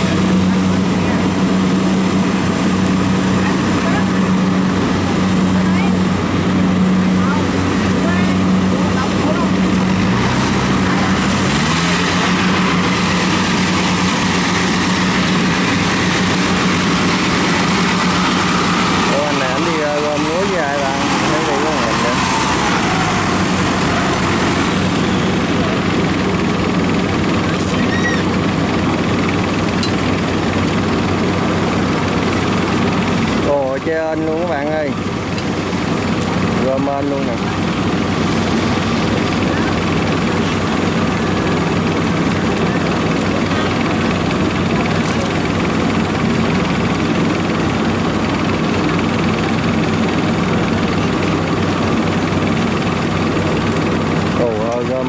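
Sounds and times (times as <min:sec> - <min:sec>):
engine thumping hum: 0:00.0 - 0:55.0.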